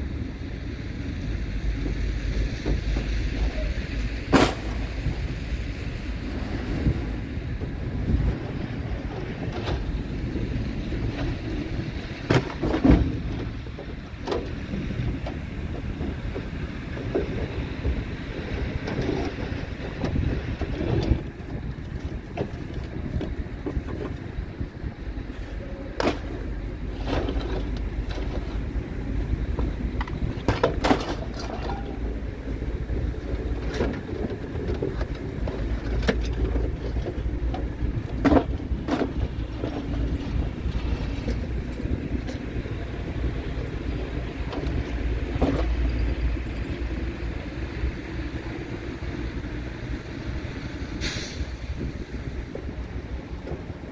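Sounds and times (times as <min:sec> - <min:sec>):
vehicle rumble: 0:00.0 - 0:53.9.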